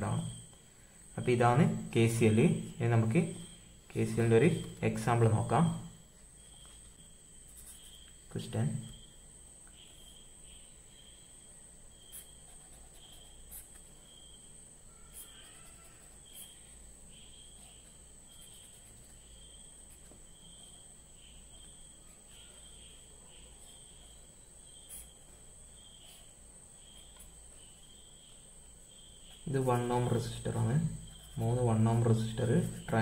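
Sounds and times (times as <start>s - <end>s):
insect chirping: 0.0s - 33.0s.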